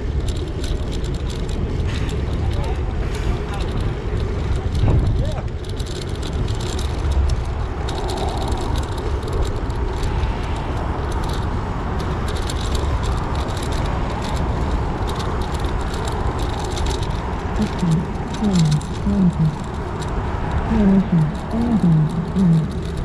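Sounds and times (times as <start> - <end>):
light rattling clicks: 0.0 - 23.0
road rumble and hiss: 0.0 - 23.0.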